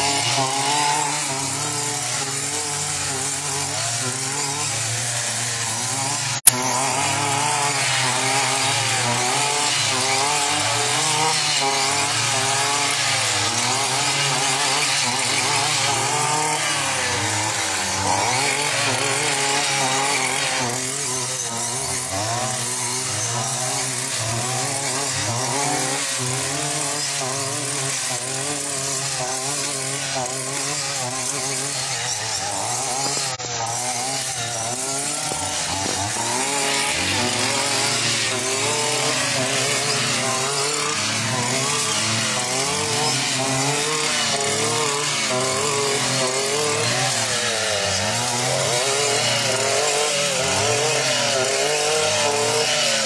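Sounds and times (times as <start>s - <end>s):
brush cutter engine running: 0.0s - 53.0s.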